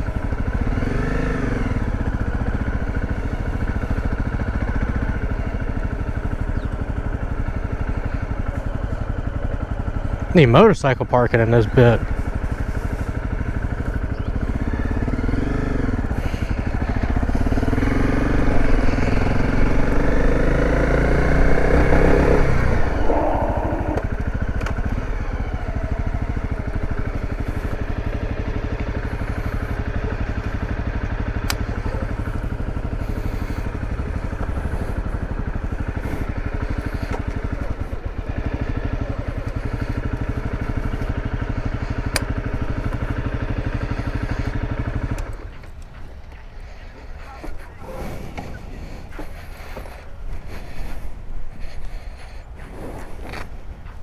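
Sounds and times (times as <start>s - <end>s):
dirt bike engine revving and idling: 0.0s - 54.0s.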